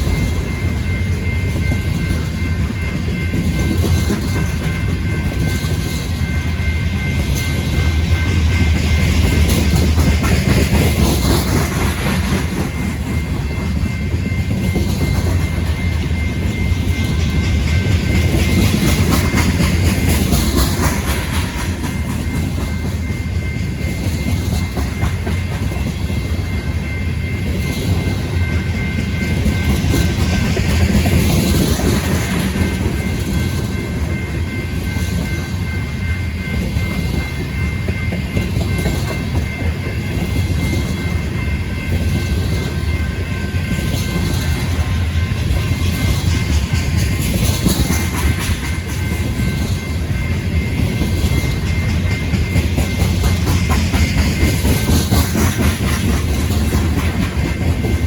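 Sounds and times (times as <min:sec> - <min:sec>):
high steady tone: 0:00.0 - 0:58.0
train wheels rumbling on rail: 0:00.0 - 0:58.0.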